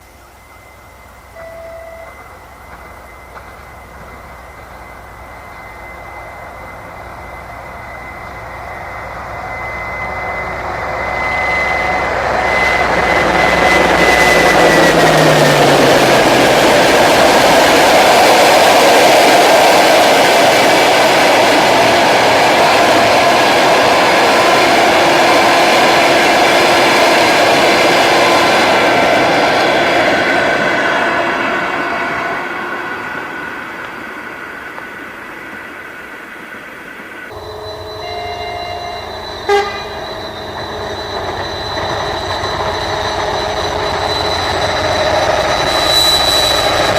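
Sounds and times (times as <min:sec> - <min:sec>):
diesel locomotive passing: 0:00.0 - 0:46.9
train wheels on rails: 0:00.0 - 0:46.9.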